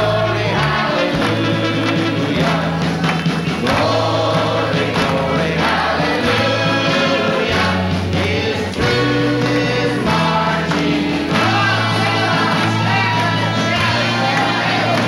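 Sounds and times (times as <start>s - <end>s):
choir-like sung chorus: 0.0s - 15.0s
held bass notes: 0.0s - 15.0s
live band music: 0.0s - 15.0s.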